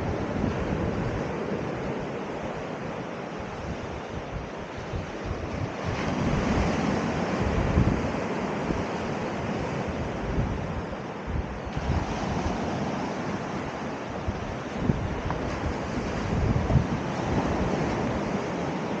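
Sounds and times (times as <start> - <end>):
sea surf washing onto shore: 0.0 - 19.0
wind buffeting microphone: 0.0 - 19.0.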